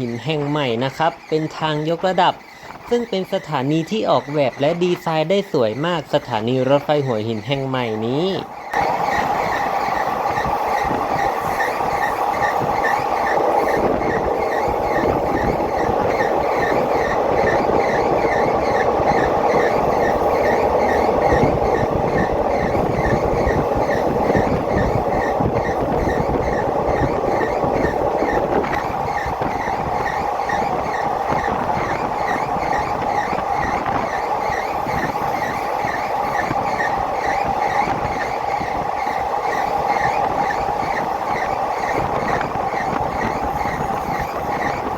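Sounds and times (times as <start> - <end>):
light rail clatter: 0.0 - 44.9
train wheels rumbling on rails: 0.0 - 44.9.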